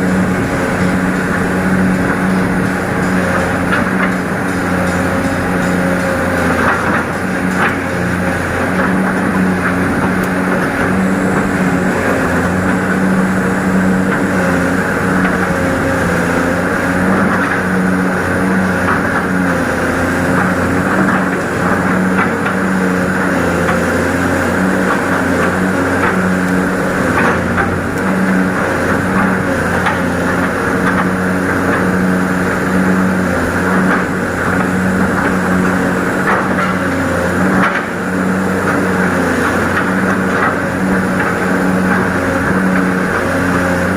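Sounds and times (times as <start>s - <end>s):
excavator engine running: 0.0s - 43.9s.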